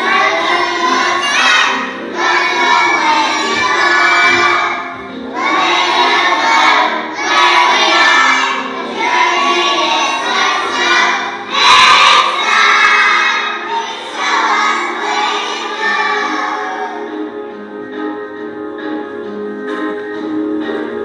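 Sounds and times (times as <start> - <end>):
young children singing: 0.0 - 18.0
instrumental accompaniment: 0.0 - 21.0.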